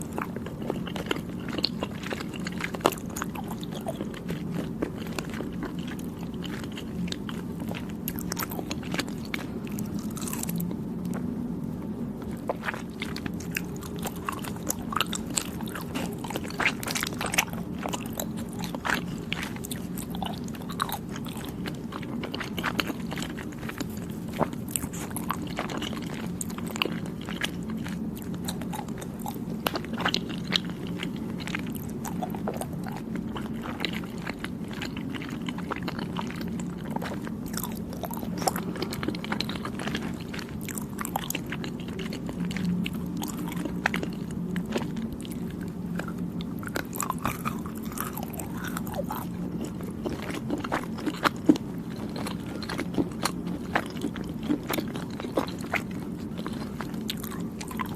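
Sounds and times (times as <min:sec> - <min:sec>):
chewing: 0:00.0 - 0:57.9
steady low hum: 0:00.0 - 0:57.9.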